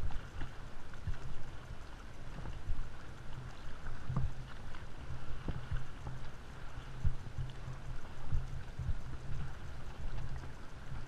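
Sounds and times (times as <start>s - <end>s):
dull thuds of waves: 0.0s - 11.0s
water sloshing and splashing: 0.0s - 11.0s.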